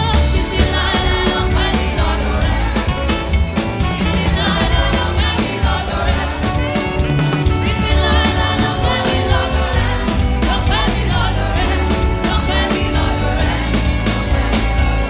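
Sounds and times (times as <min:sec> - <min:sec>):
bass: 0:00.0 - 0:15.0
drum kit: 0:00.0 - 0:15.0
gospel band music: 0:00.0 - 0:15.0
person singing: 0:00.0 - 0:15.0.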